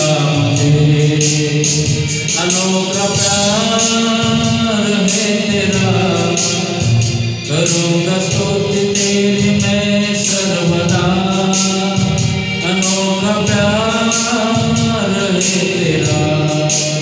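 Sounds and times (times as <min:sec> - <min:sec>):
backing track with steady beat: 0:00.0 - 0:17.0
man singing into a microphone: 0:00.0 - 0:17.0.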